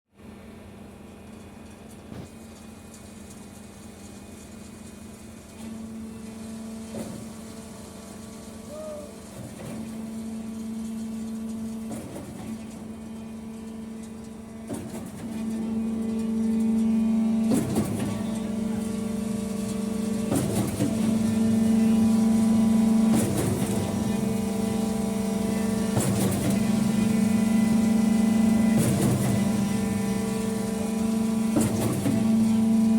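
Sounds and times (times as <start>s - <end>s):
concrete pump engine hum: 0.2s - 32.9s.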